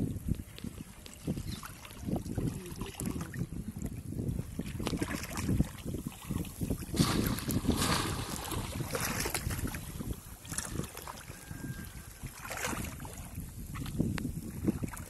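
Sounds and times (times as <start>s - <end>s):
water splashing and sloshing: 0.0s - 15.0s
wind rumble on microphone: 0.0s - 15.0s.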